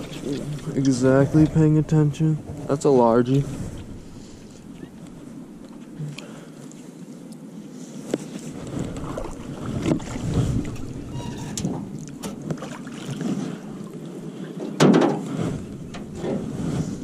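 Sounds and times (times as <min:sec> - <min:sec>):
wind rumbling on microphone: 0:00.0 - 0:06.2, 0:08.0 - 0:17.0.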